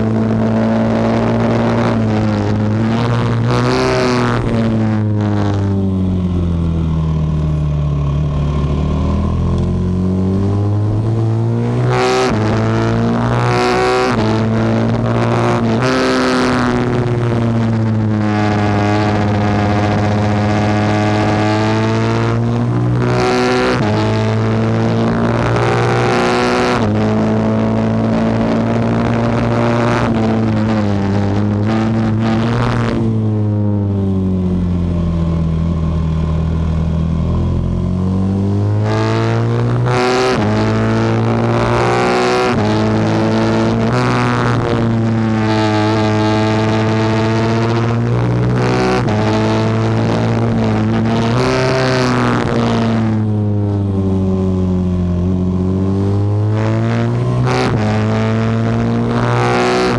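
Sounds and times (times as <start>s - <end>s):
motorcycle engine at full throttle: 0.0s - 59.9s.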